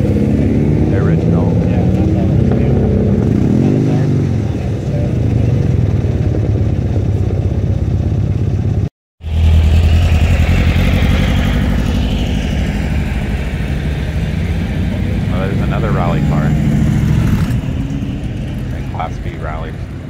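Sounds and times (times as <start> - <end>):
car engine rumbling by: 0.0 - 20.0.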